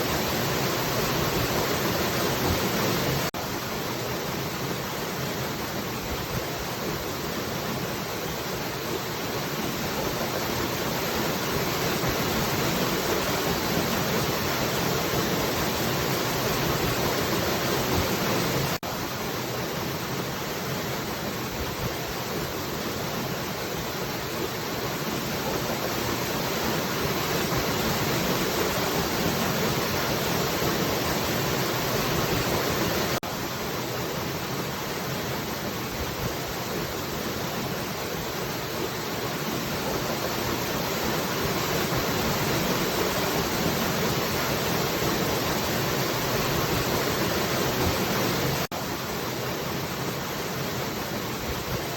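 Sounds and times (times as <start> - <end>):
falling water rushing: 0.0 - 51.9.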